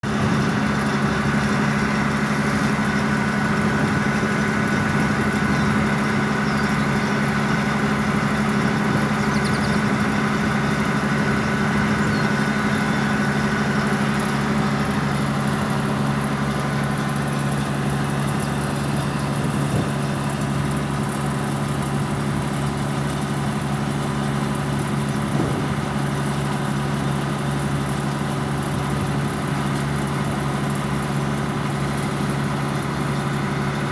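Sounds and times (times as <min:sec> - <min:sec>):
machinery engine running: 0:00.0 - 0:33.9.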